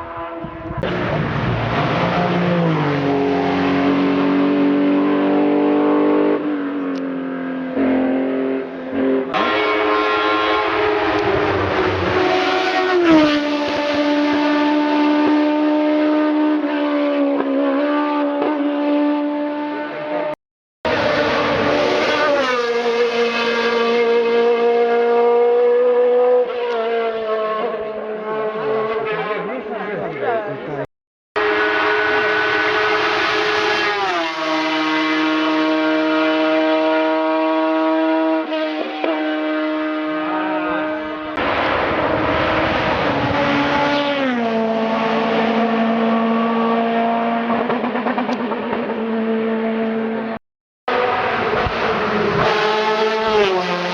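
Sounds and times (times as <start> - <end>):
race car engine at high revs: 0.0 - 30.0, 31.4 - 53.9.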